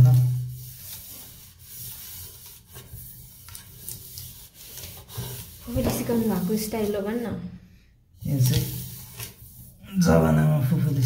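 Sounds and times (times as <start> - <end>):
faint rubbing and scraping: 0.0 - 7.6, 8.2 - 11.0.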